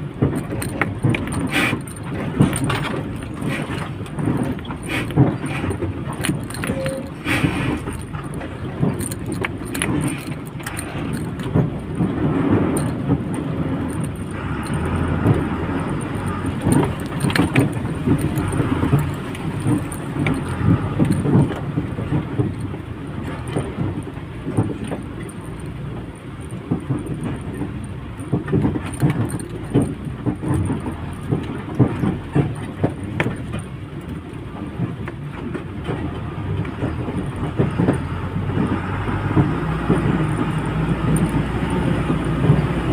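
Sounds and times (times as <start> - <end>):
lorry engine and road rumble: 0.0 - 42.9
small rattles and clicks: 0.0 - 42.9.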